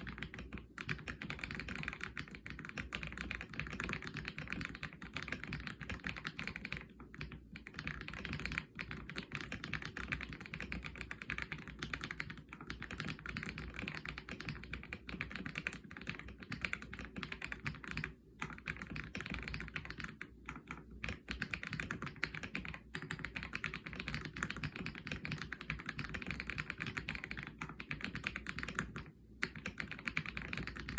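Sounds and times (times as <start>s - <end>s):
fast mechanical keyboard typing: 0.0s - 30.9s.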